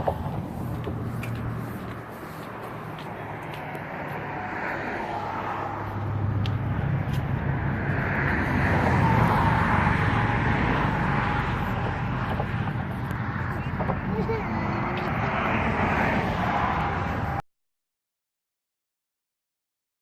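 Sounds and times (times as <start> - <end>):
road noise: 0.0 - 17.4
vehicle engine hum: 0.0 - 17.4.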